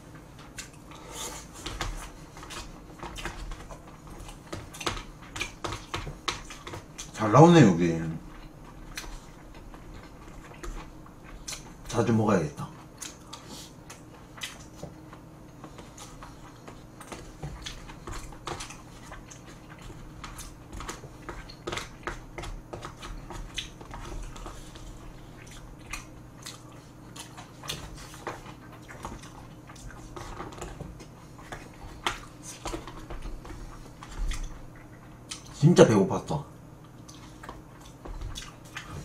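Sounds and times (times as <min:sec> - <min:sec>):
person chewing food: 0:00.0 - 0:07.2, 0:08.3 - 0:12.0, 0:12.6 - 0:35.6, 0:36.7 - 0:39.0.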